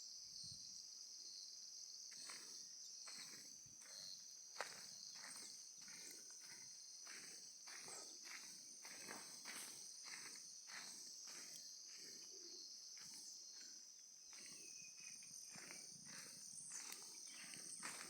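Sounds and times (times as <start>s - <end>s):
high-pitched insect trill: 0.0s - 18.0s
faint footsteps walking: 3.1s - 18.0s.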